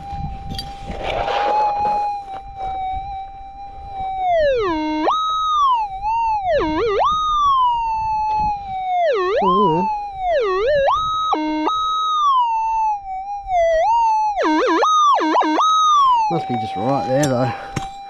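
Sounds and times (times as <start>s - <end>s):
metal detector tone swooping: 0.0s - 18.0s.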